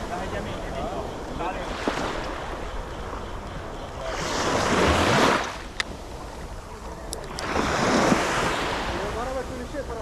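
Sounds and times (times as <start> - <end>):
small waves breaking on shore: 0.0 - 10.0
wind on microphone: 0.0 - 10.0.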